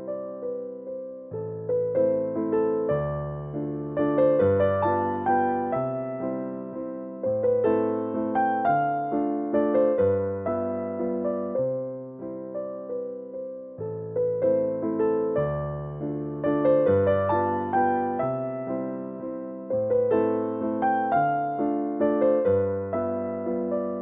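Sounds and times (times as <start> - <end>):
piano melody: 0.0 - 24.0.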